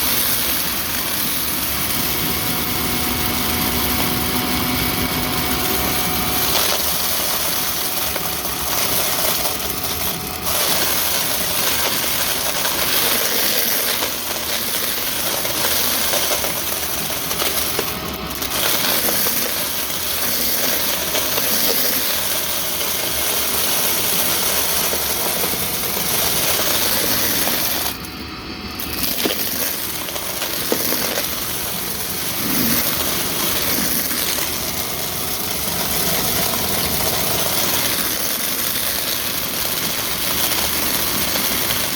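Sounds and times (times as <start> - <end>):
vacuum cleaner rushing hiss: 0.0 - 41.9.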